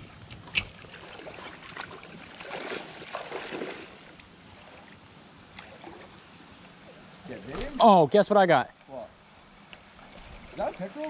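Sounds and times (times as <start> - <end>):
slow-flowing river: 0.0 - 11.0.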